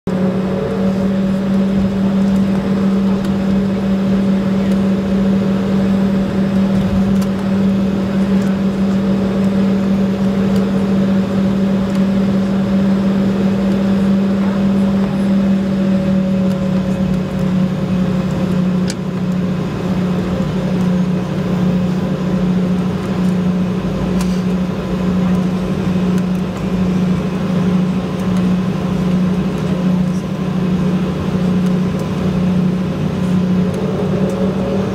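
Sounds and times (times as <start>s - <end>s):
jet engines low drone: 0.1s - 34.9s.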